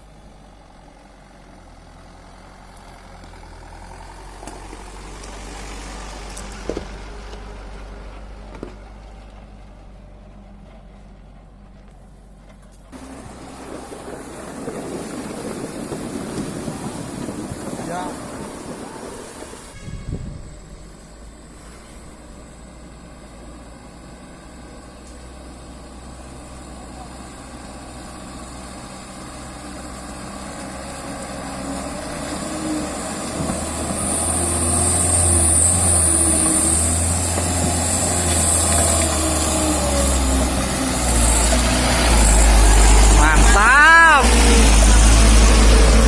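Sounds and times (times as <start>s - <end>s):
diesel engine droning: 0.0s - 46.0s.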